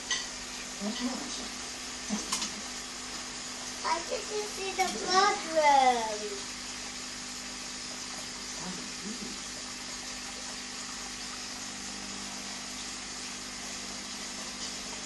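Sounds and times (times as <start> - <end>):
aquarium air bubbles fizzing: 0.0 - 15.0.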